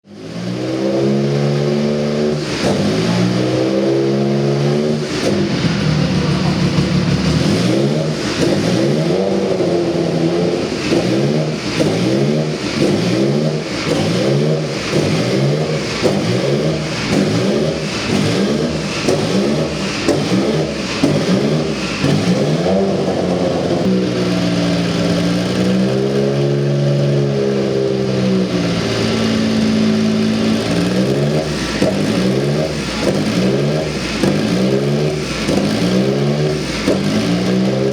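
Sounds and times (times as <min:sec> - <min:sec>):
race car engine revving: 0:00.0 - 0:37.9.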